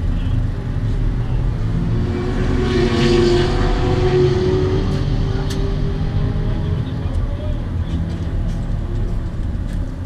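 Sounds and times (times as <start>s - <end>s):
car engine exhaust rumble: 0.0s - 10.0s.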